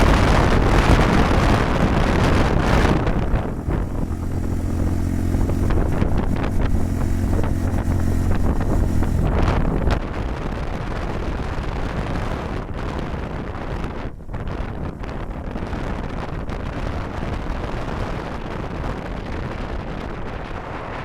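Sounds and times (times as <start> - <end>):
motorcycle engine running: 0.0 - 20.6
wind buffeting microphone: 0.0 - 21.0.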